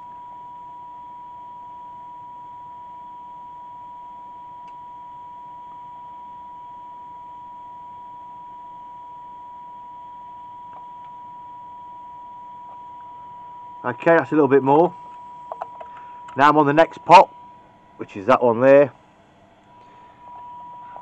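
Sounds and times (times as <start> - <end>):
steady test tone over radio: 0.0 - 19.0, 19.7 - 21.0.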